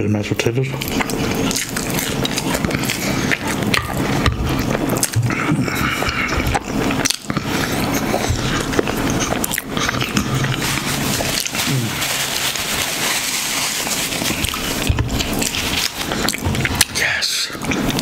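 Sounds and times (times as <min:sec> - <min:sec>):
person chewing food: 0:00.7 - 0:18.0.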